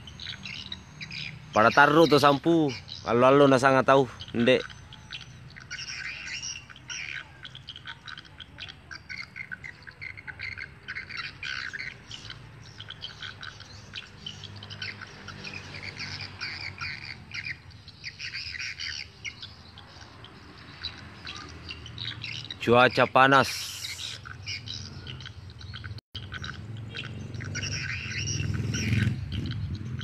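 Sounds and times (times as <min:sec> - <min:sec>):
bird call through speaker: 0:00.0 - 0:29.7
swiftlets twittering: 0:00.0 - 0:30.0.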